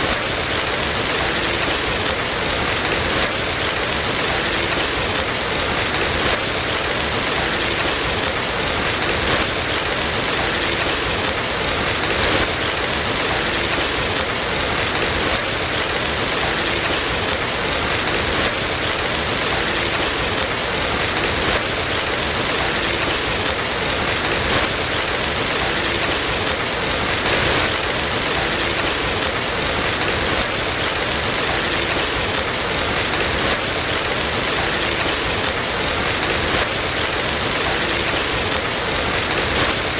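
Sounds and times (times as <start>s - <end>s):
dense rainfall hissing: 0.0s - 39.9s.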